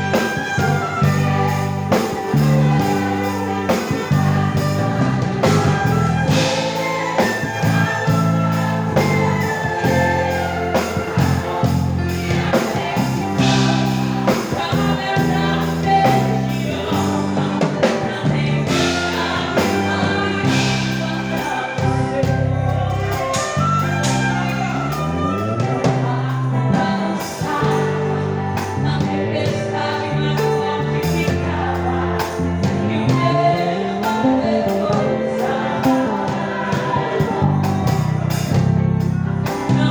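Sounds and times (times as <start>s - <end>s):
band with bass and drums: 0.0s - 39.9s
group singing gospel hymn: 0.0s - 39.9s.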